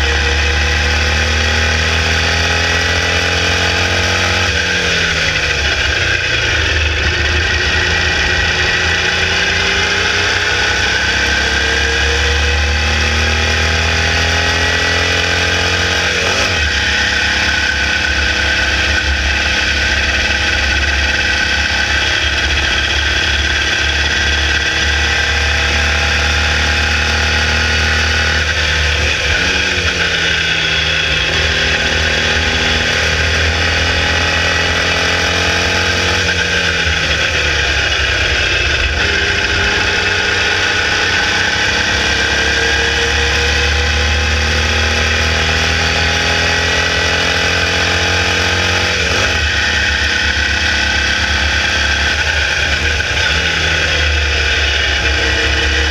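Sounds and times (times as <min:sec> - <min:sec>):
race car engine at speed: 0:00.0 - 0:55.9.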